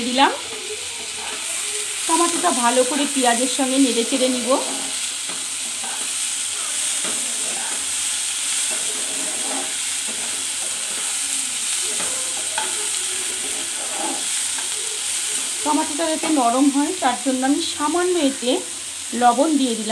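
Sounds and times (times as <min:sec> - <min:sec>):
onions and spices sizzling in wok: 0:00.0 - 0:19.9
metal spatula scraping: 0:00.1 - 0:18.6.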